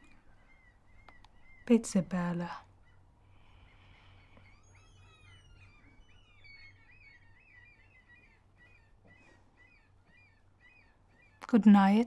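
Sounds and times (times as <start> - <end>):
high chirping bird calls: 0.0 - 12.0.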